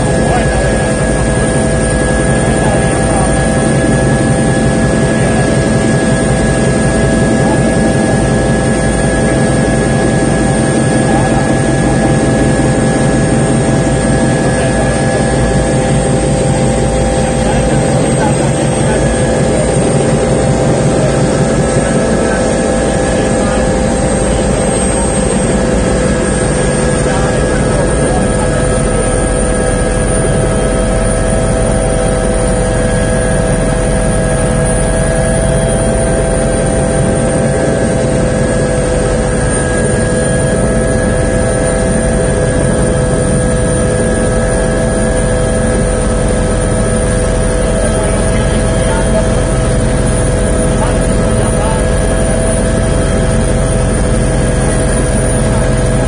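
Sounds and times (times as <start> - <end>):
helicopter rotor chop: 0.0 - 56.0
helicopter turbine whine: 0.0 - 56.0.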